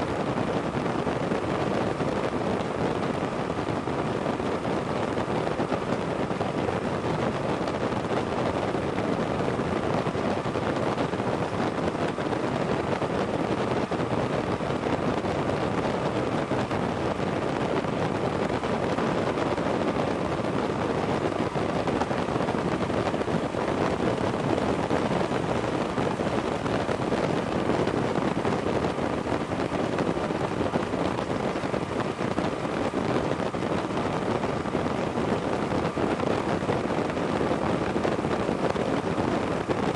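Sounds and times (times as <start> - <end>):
wind over microphone: 0.0 - 39.9.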